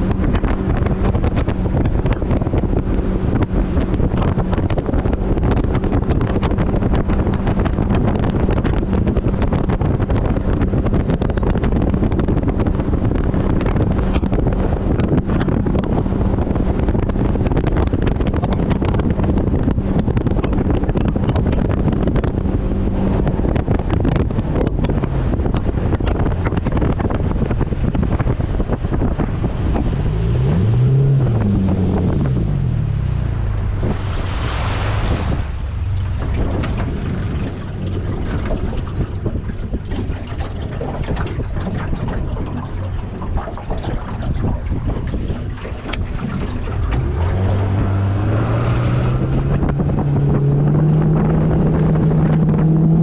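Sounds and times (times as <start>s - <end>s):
outboard boat engine running: 0.0s - 53.0s
wind buffeting microphone: 0.0s - 53.0s.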